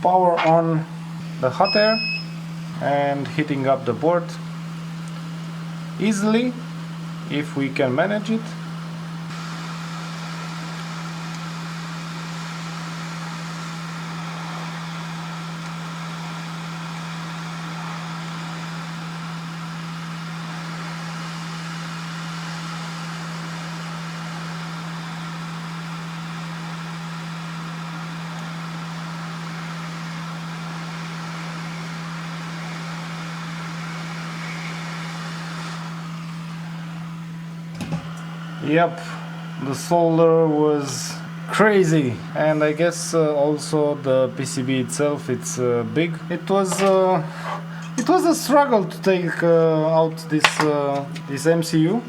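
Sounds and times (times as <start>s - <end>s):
hot air blower hissing: 0.0s - 52.0s.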